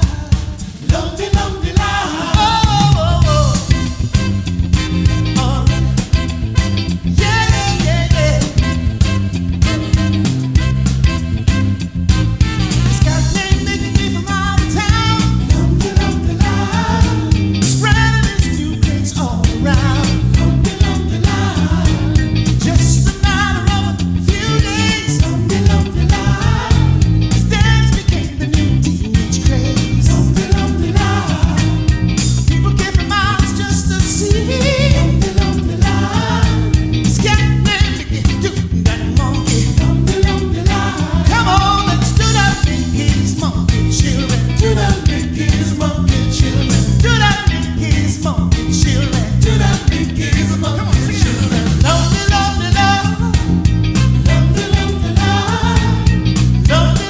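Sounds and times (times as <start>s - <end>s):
live band playing soul music: 0.0s - 57.0s.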